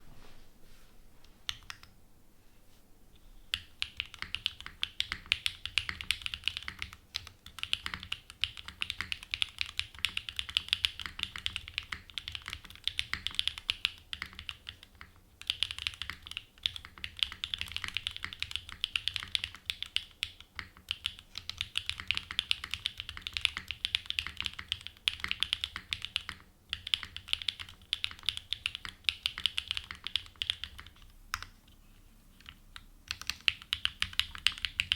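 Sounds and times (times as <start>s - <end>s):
mechanical keyboard typing: 3.5s - 31.5s, 32.4s - 34.9s.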